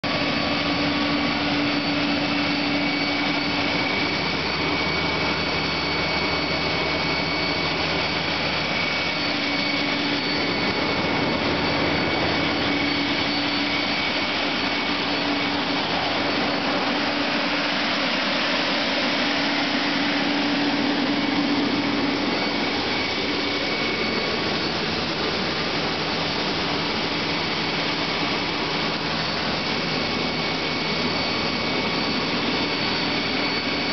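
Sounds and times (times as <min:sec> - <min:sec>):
fire engine pump running: 0:00.0 - 0:33.9
water rushing through piping: 0:00.0 - 0:33.9.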